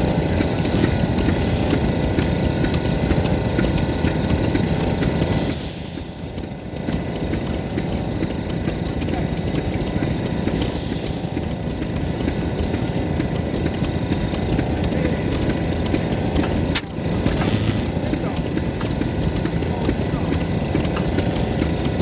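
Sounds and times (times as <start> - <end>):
stationary engine running: 0.0 - 22.0.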